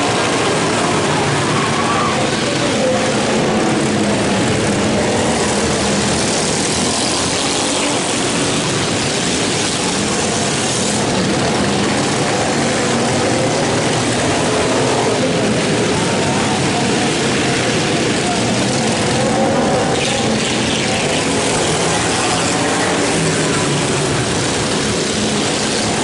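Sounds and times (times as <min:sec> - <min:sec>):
racing lawnmower engines buzzing: 0:00.0 - 0:26.0.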